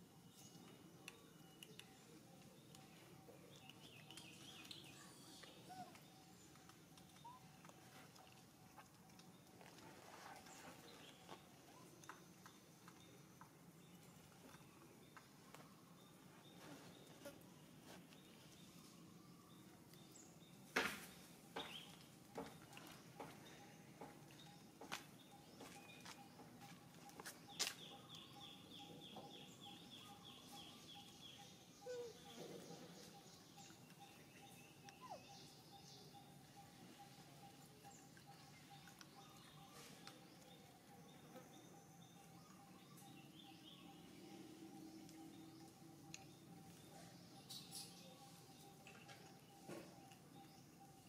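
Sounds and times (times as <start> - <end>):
bird chirping: 0.0 - 51.0.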